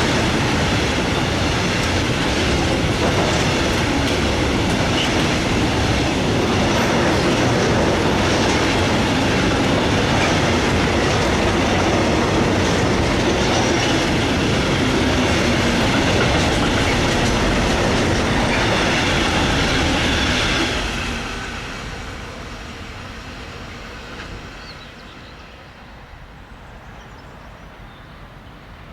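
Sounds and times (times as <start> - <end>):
freight train wheels rolling on rails: 0.0 - 28.9.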